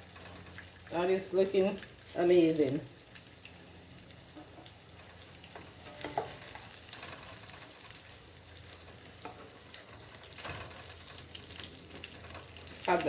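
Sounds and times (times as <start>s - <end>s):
oil popping and crackling: 0.0s - 13.0s
patties sizzling in oil: 0.0s - 13.0s.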